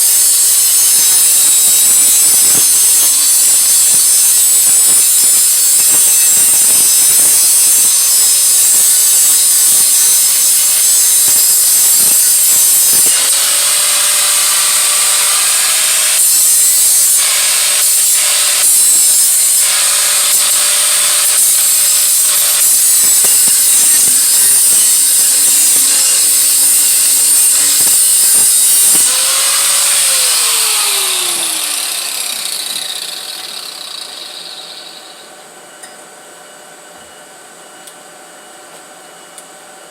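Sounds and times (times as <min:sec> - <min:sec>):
power grinder grinding metal: 0:00.0 - 0:35.3.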